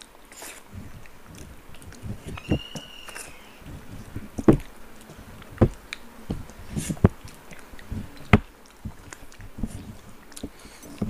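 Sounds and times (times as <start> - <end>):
wet chewing and mouth smacks: 0.0 - 11.0.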